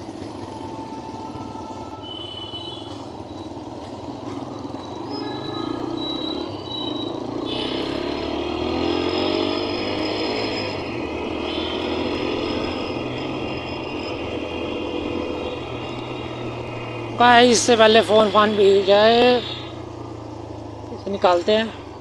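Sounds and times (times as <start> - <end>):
motorcycle engine running: 0.0 - 22.0
wind and road noise: 3.0 - 22.0.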